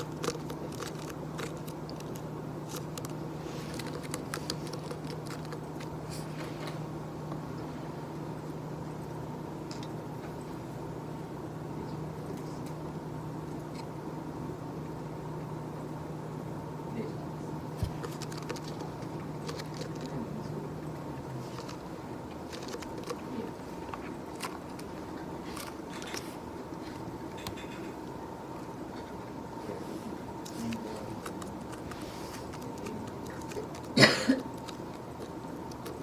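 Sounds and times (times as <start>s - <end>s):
office background hum: 0.0s - 36.0s.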